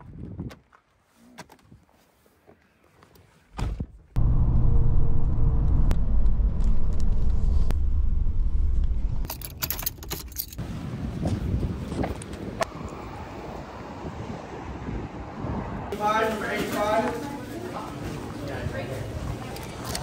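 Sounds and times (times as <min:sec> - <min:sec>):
engine and road rumble: 0:03.9 - 0:20.0.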